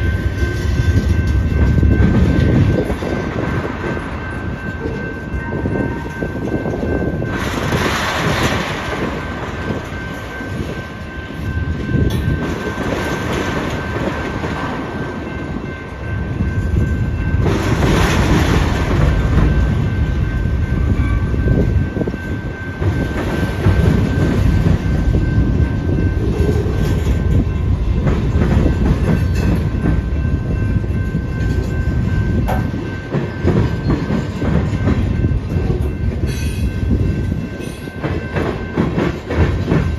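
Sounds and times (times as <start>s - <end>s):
freight train rumble: 0.0s - 39.9s.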